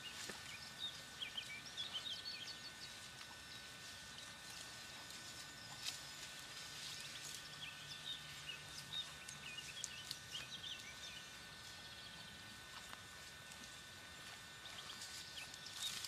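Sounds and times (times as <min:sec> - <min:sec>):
small birds chirping: 0:00.0 - 0:12.6, 0:14.4 - 0:16.0
soft outdoor hiss: 0:00.0 - 0:16.0.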